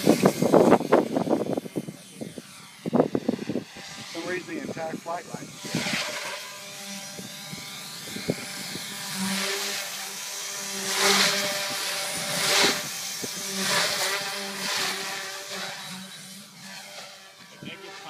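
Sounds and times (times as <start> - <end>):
whooshing blade noise: 0.0 - 17.3
quadcopter rotor whine: 0.0 - 18.0.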